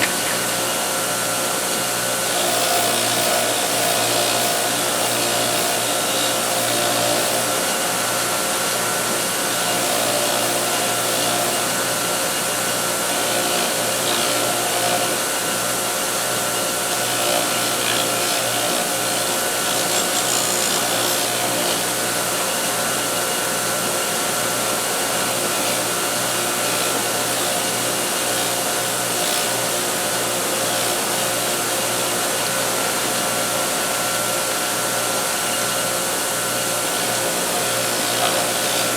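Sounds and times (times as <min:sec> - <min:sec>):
bench grinder motor running: 0:00.0 - 0:38.9.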